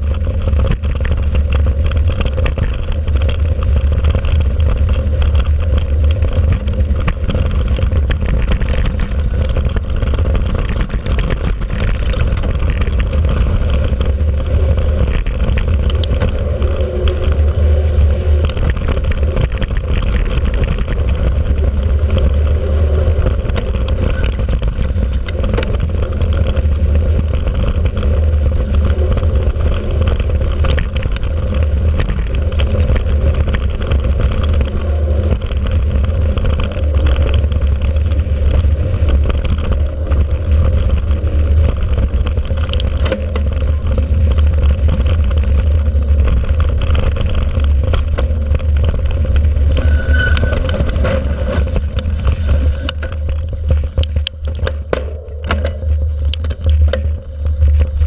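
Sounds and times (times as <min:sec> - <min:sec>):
bike rattling over ground: 0:00.0 - 0:58.0
bike tyre noise: 0:00.0 - 0:58.0
wind rumble on microphone: 0:00.0 - 0:58.0.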